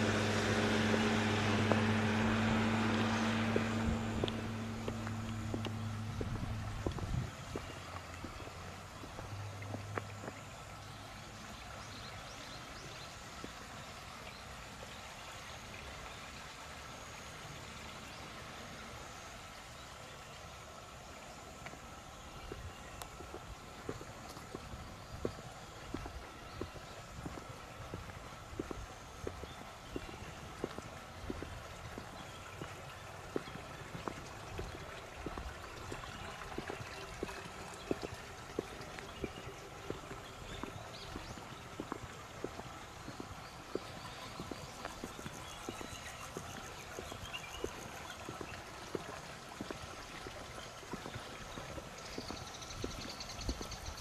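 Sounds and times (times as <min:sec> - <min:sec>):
footsteps on stone paving: 0:00.0 - 0:12.1, 0:21.6 - 0:54.0
running water rushing: 0:00.0 - 0:54.0.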